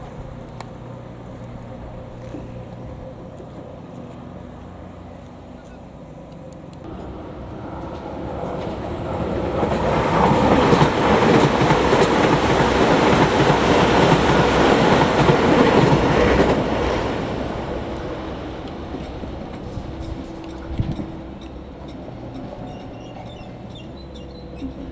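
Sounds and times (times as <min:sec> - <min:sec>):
electric train passing: 0:00.0 - 0:24.9
wheels clicking over rail joints: 0:00.0 - 0:24.9.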